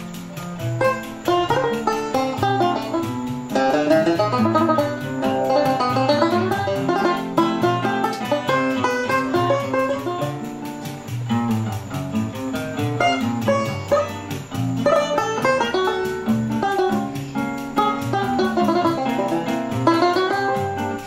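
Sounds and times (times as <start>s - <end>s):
acoustic guitar: 0.0s - 21.0s
banjo picking fast melody: 0.0s - 21.0s
quick percussion ticking: 0.0s - 21.0s.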